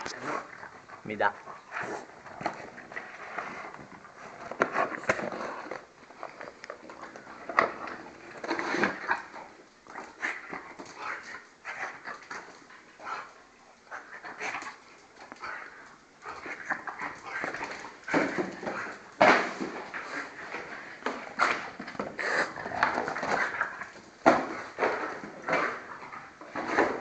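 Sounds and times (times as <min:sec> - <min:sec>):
dog chewing noises: 0:00.0 - 0:27.0.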